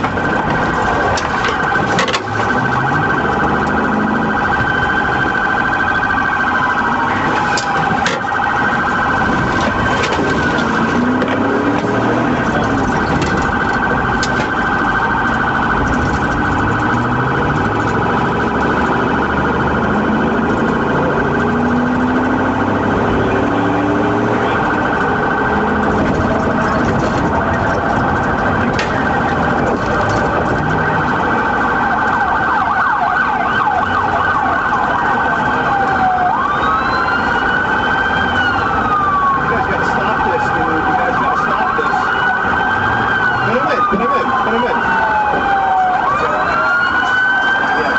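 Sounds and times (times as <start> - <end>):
car engine and road noise: 0.0 - 47.9
police siren: 0.0 - 47.9.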